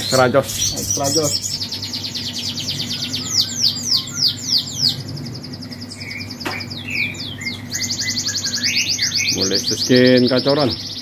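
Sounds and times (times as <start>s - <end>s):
finch singing: 0.0s - 11.0s.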